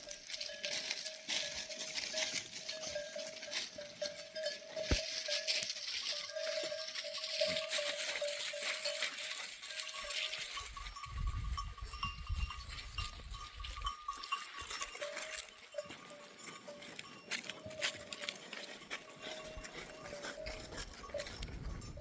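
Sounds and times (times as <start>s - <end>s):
animal bells ringing: 0.0s - 22.0s.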